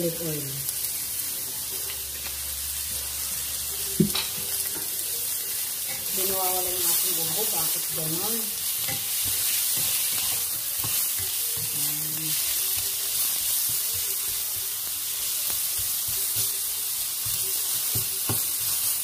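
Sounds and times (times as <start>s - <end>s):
carrots sizzling in oil: 0.0s - 19.0s.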